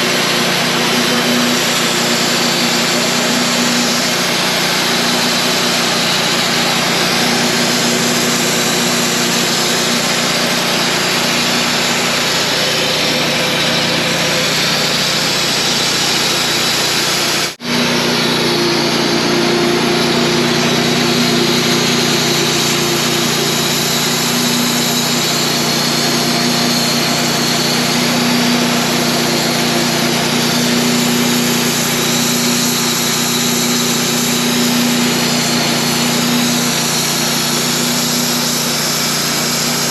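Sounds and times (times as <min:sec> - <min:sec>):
band blade cutting log: 0:00.0 - 0:39.9
sawmill engine humming: 0:00.0 - 0:39.9.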